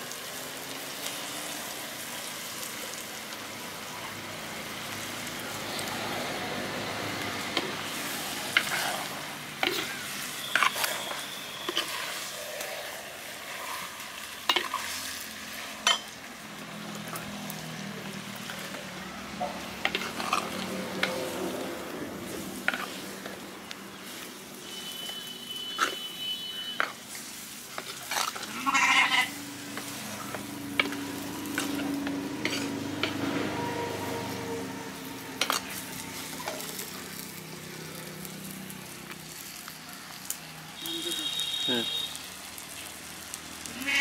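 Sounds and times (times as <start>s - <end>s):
meat sizzling in oil: 0.0s - 44.0s.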